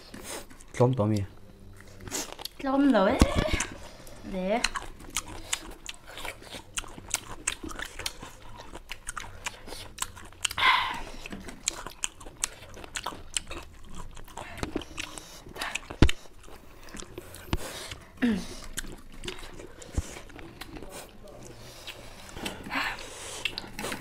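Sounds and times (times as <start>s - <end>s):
people chewing and sucking: 0.0s - 24.0s.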